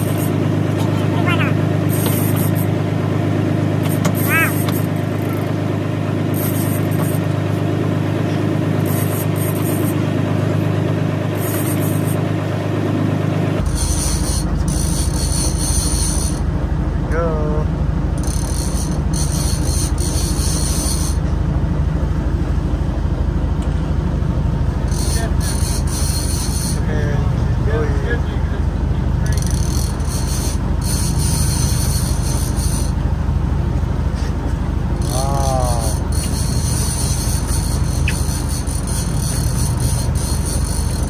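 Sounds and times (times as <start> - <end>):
low engine drone: 0.0 - 41.0.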